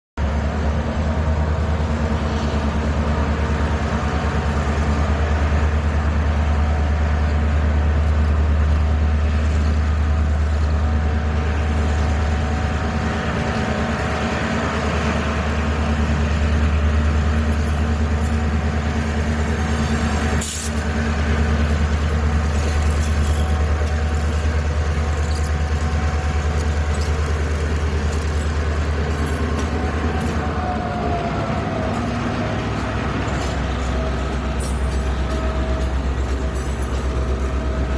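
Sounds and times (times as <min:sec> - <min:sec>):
locomotive engine droning: 0:00.2 - 0:37.9.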